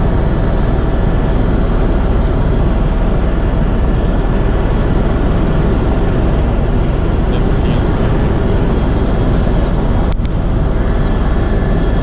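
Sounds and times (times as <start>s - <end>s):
faint steady whine: 0.0s - 12.0s
helicopter rotor and engine drone: 0.0s - 12.0s.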